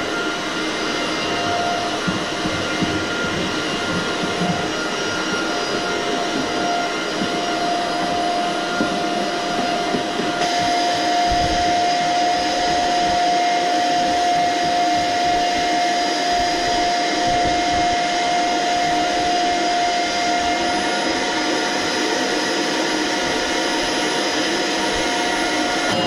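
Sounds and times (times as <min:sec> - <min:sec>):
vacuum cleaner whining: 0:00.0 - 0:26.0.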